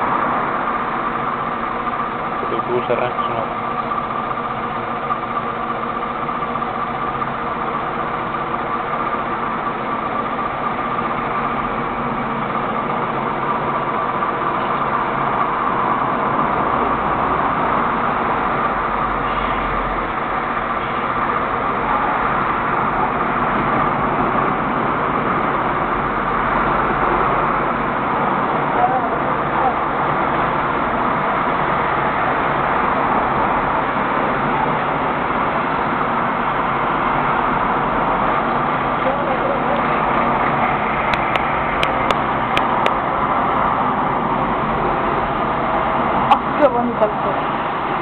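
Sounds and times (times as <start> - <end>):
bus diesel engine pulling away: 0.0 - 48.0.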